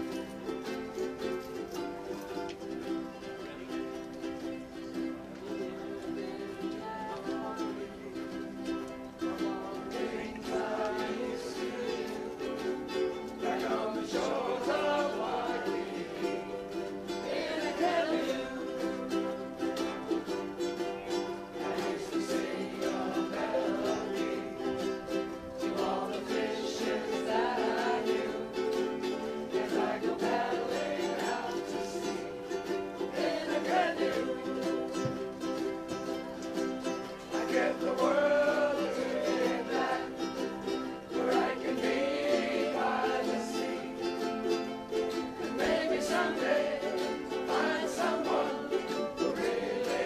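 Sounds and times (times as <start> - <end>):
ukuleles strumming chords: 0.0 - 50.0.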